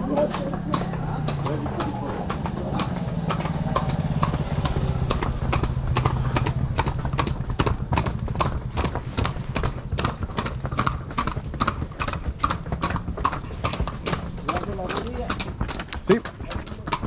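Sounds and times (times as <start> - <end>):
hooves clip-clopping on concrete: 0.0 - 17.0.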